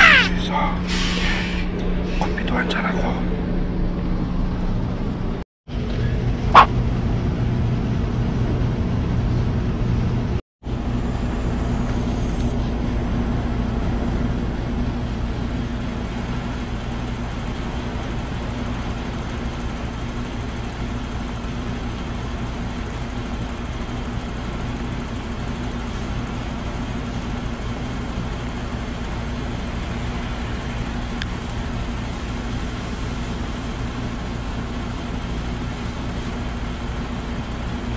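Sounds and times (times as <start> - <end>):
low mechanical hum: 0.0 - 37.9.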